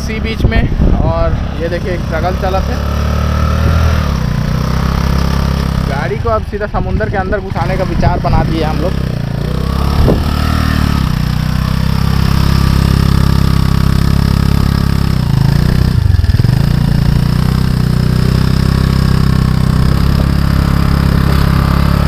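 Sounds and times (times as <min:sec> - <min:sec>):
scooter engine revving: 0:00.0 - 0:22.0.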